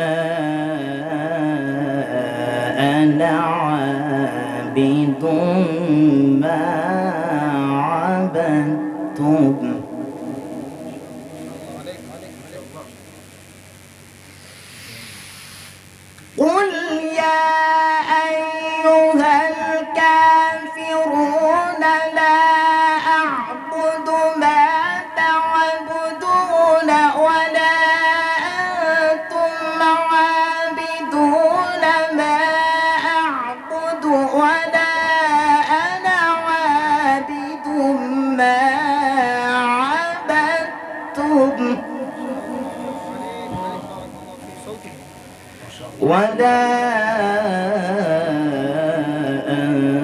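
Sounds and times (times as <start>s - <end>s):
person chanting recitation: 0.0s - 13.0s, 16.4s - 50.0s.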